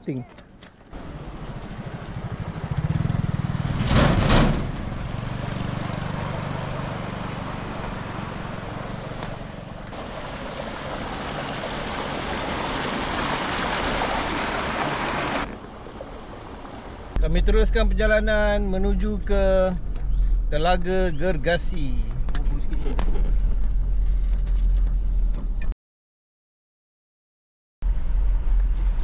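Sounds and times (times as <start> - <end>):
vehicle engine rumbling: 0.4 - 25.7, 27.8 - 29.0.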